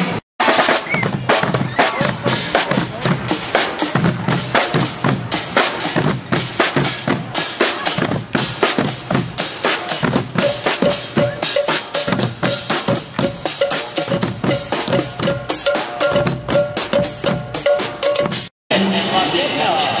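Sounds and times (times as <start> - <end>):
marching band drums and cymbals: 0.0 - 18.5.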